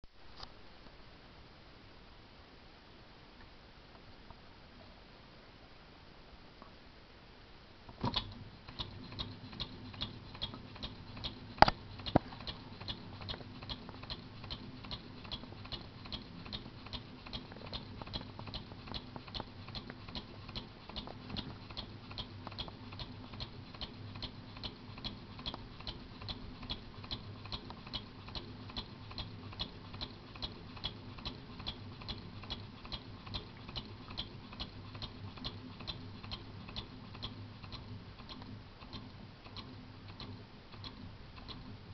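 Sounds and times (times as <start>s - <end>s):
model engine ticking: 8.2s - 41.7s.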